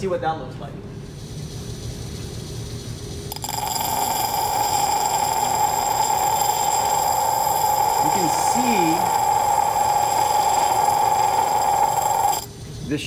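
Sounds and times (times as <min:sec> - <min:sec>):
low machine hum: 0:00.0 - 0:13.0
thin high whine: 0:00.9 - 0:13.0
hiss: 0:01.1 - 0:13.0.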